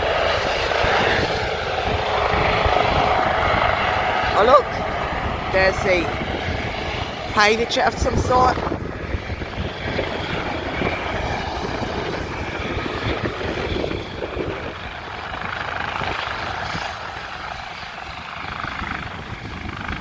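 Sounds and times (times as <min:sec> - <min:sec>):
helicopter rotors beating: 0:00.0 - 0:20.0.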